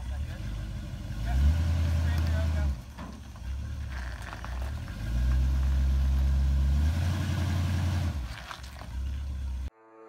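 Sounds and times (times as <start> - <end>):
engine idling: 0.0 - 9.7.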